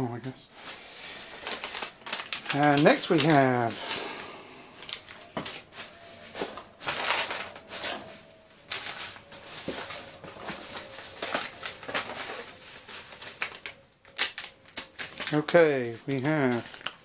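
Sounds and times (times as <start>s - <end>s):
plastic packaging crinkling: 0.6s - 17.0s.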